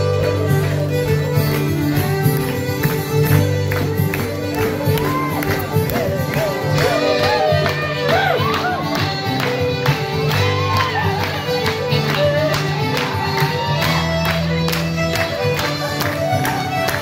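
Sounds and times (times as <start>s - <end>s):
lead melody: 0.0s - 17.0s.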